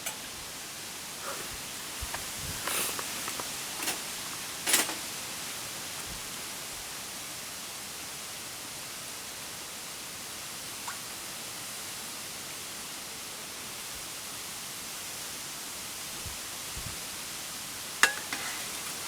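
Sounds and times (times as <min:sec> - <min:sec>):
campfire hissing: 0:00.0 - 0:10.7, 0:11.3 - 0:19.0.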